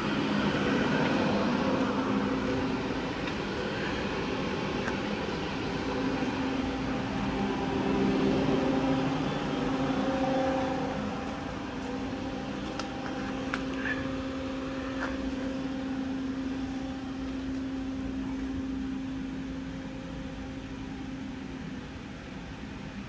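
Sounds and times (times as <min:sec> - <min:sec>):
lathe machine hum: 0:00.0 - 0:23.0.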